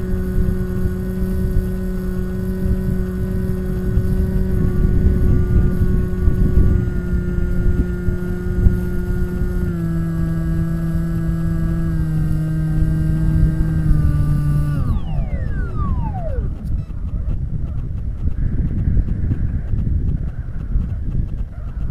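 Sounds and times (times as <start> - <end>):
electric motor and propeller whining: 0.0 - 21.9
wind rumble on microphone: 0.0 - 21.9.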